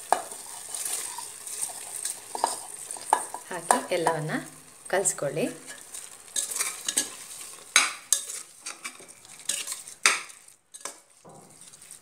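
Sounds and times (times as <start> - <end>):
metal spatula scraping a pot: 0.0 - 3.9, 5.7 - 12.0
faint sizzle: 0.0 - 12.0.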